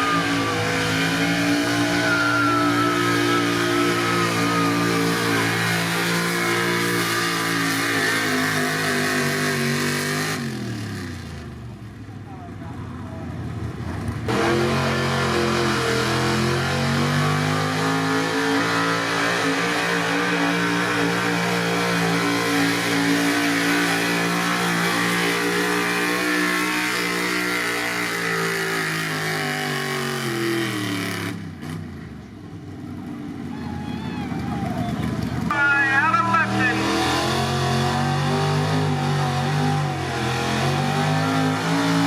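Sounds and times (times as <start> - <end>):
truck engine at full throttle: 0.0 - 42.0.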